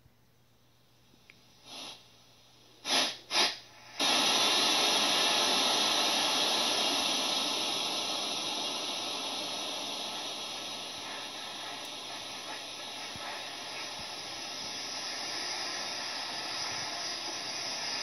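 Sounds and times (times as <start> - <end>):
electronic static hiss: 1.6 - 18.0.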